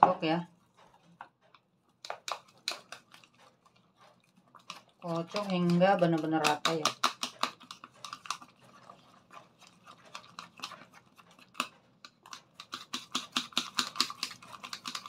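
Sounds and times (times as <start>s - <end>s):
whisking eggs in metal cup: 0.0s - 15.0s.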